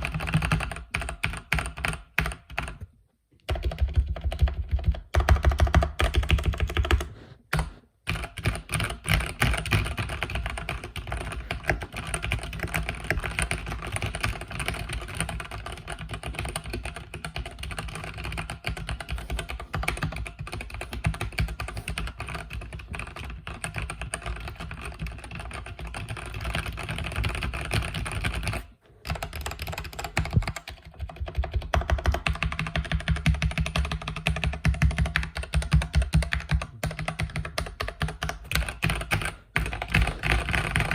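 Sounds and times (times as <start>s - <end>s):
fast typing on mechanical keyboard: 0.0s - 2.8s, 3.5s - 40.9s.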